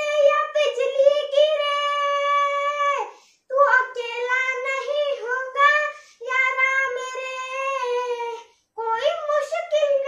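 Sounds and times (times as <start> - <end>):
boy singing unaccompanied: 0.0 - 10.0.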